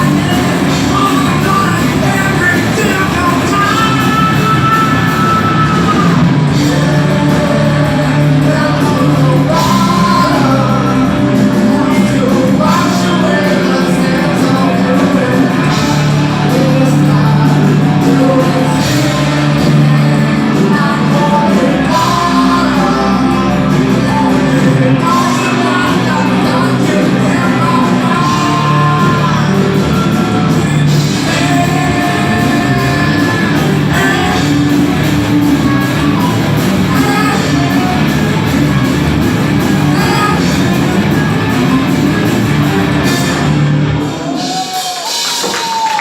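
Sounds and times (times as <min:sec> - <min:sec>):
rock band playing live: 0:00.0 - 0:46.0
singer belting and shouting: 0:00.0 - 0:46.0.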